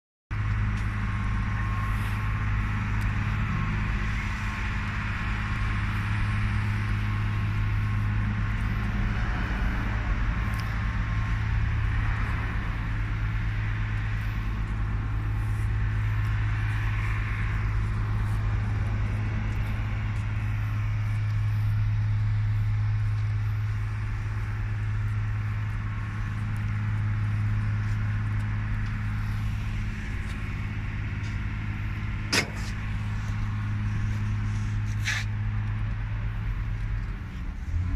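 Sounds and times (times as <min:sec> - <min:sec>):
diesel truck engine humming: 0:00.3 - 0:37.9.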